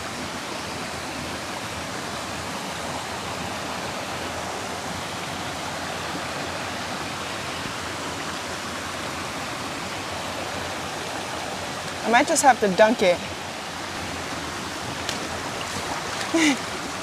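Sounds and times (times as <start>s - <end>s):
stream water flowing over rocks: 0.0s - 17.0s.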